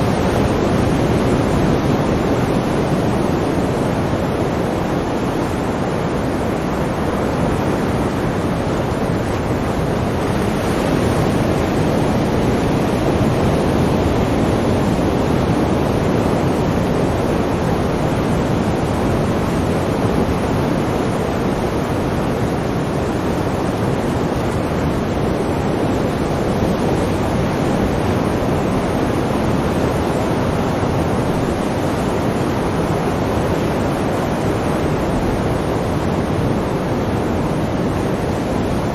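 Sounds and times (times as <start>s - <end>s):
sea waves washing: 0.0s - 38.9s.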